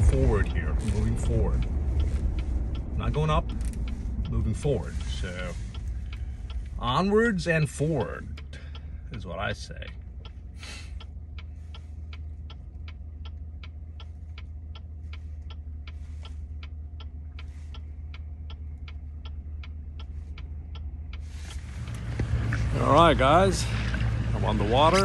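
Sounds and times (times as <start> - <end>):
low hum inside truck cab: 0.0 - 25.0
turn signal ticking: 0.0 - 25.0.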